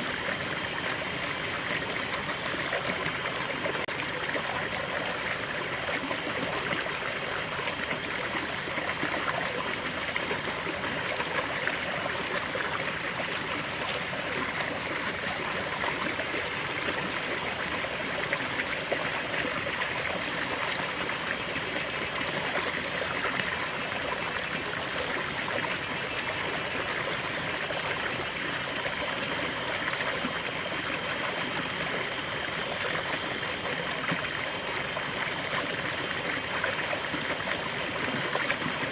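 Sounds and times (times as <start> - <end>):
water splashing over rocks: 1.7 - 38.9.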